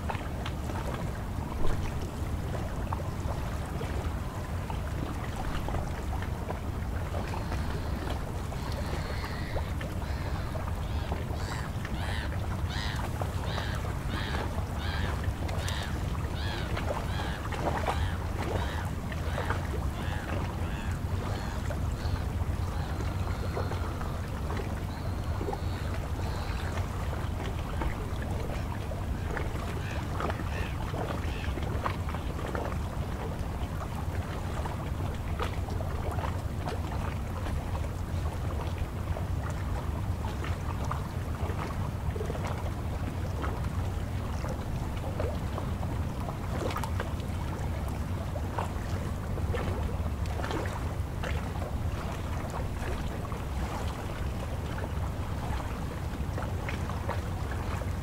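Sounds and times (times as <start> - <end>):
water lapping at shore: 0.0 - 58.0.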